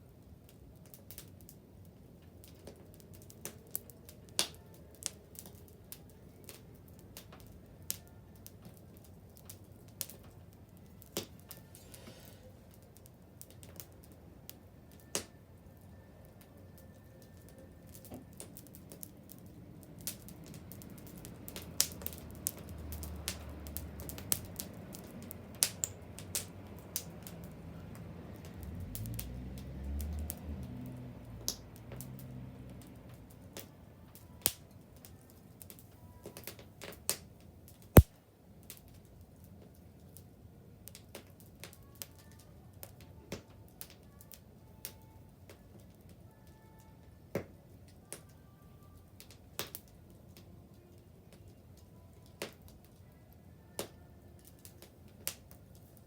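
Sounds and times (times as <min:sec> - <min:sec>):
low rumble of burning: 0:00.0 - 0:56.0
bonfire crackling and popping: 0:00.3 - 0:44.0, 0:49.2 - 0:50.5, 0:53.8 - 0:56.0.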